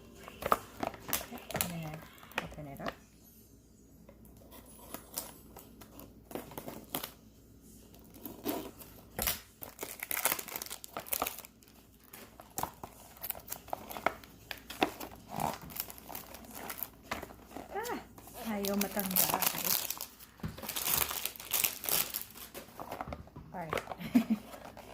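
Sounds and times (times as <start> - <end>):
packaging crinkling and tearing: 0.2 - 3.0, 4.5 - 7.2, 7.9 - 24.9.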